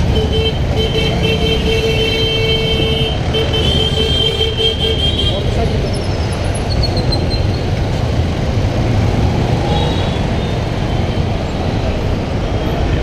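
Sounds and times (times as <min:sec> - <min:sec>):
motorcycle and car traffic: 0:00.0 - 0:13.0.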